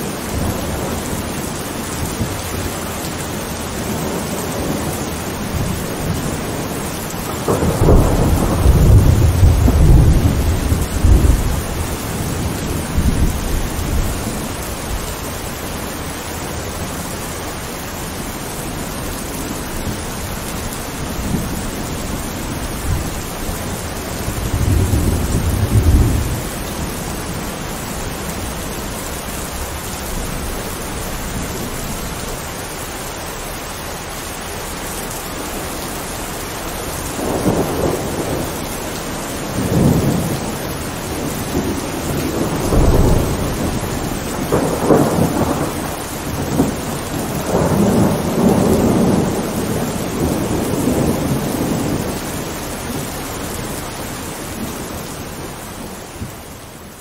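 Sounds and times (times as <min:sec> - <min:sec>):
thunder rumbling: 0:00.0 - 0:32.7, 0:35.4 - 0:56.4
heavy rain: 0:00.0 - 0:57.0.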